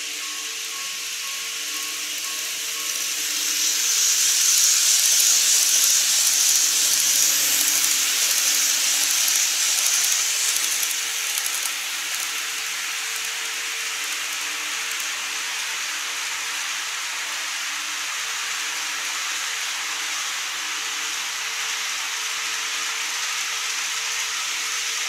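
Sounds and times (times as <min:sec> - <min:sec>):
model train whirring on track: 0:00.0 - 0:25.0.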